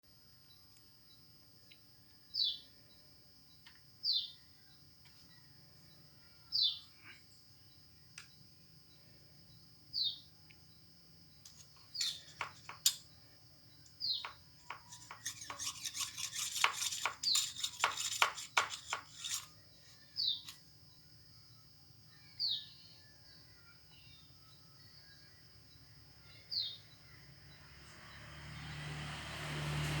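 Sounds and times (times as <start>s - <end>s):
bird chirping: 0.4s - 28.7s
high insect drone: 2.3s - 30.0s.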